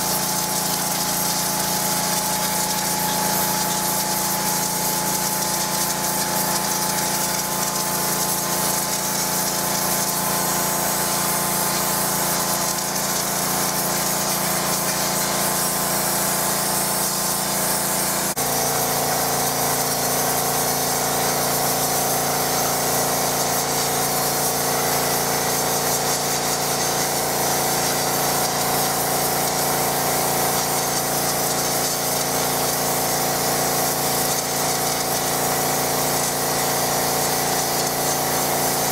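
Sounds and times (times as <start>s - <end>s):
pressure washer engine drone: 0.0s - 38.9s.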